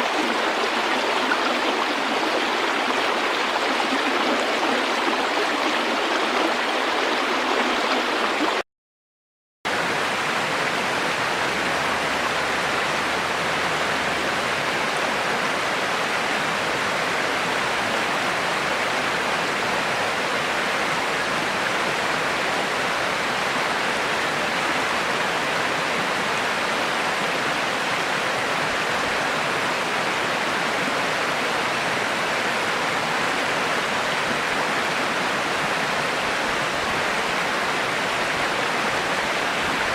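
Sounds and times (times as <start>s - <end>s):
river water rushing: 0.0s - 8.6s, 9.7s - 39.9s.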